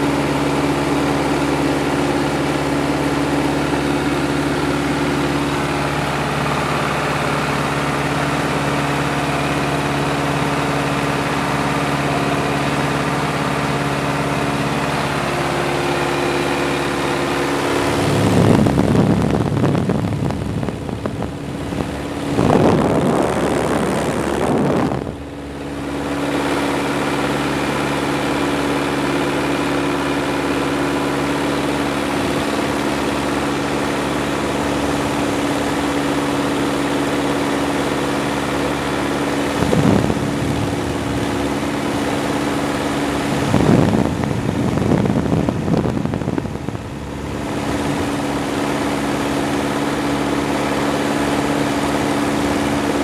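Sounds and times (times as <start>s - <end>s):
airplane engine and propeller droning: 0.0s - 53.0s
wind buffeting microphone: 2.2s - 53.0s.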